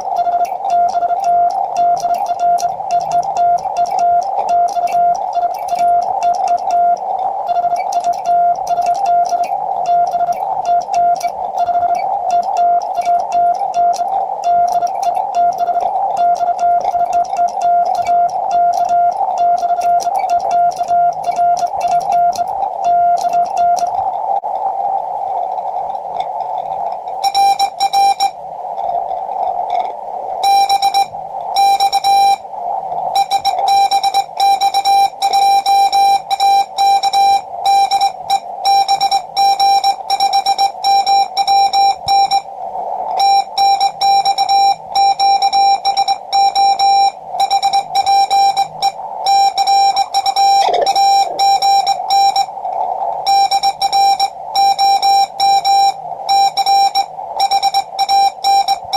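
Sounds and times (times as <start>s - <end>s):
morse code tone: 0.0s - 24.0s, 27.2s - 28.4s, 30.4s - 32.4s, 33.1s - 42.5s, 43.2s - 52.6s, 53.2s - 58.9s
faint radio band hiss: 0.0s - 58.9s.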